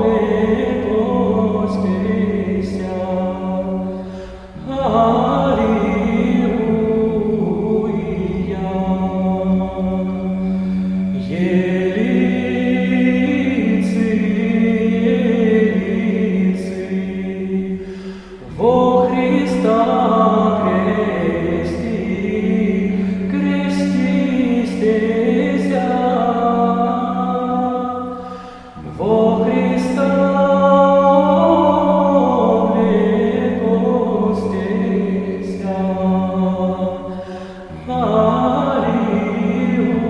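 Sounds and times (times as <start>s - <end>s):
choir chanting: 0.0s - 40.0s
held low note: 0.0s - 40.0s.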